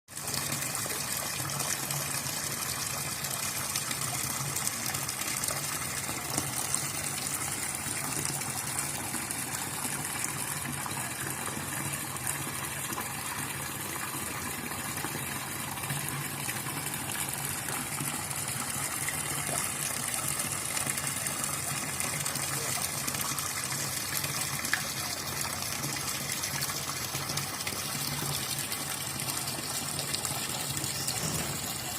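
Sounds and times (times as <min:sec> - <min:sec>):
rushing water: 0:00.1 - 0:31.9.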